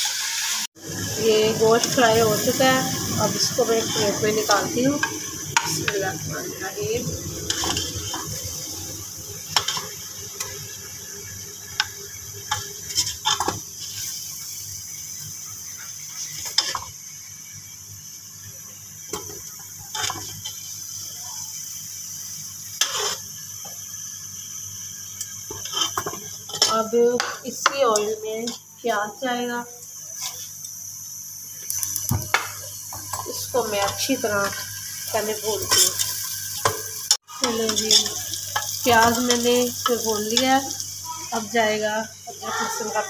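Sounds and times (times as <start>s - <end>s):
hot oil sizzling: 0.0s - 43.0s.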